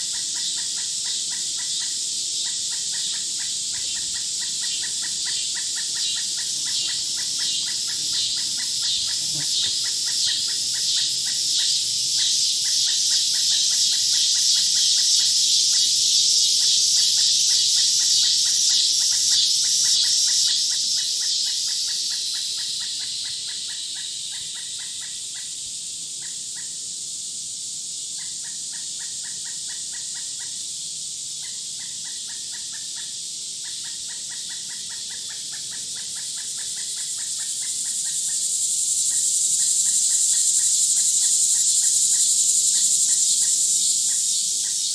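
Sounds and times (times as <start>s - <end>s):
high-pitched pulsing insect buzz: 0.0s - 44.9s.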